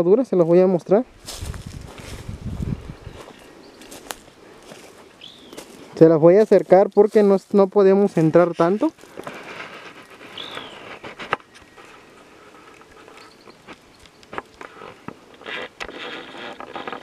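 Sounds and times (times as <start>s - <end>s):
rustling of dry brush: 0.3s - 17.0s.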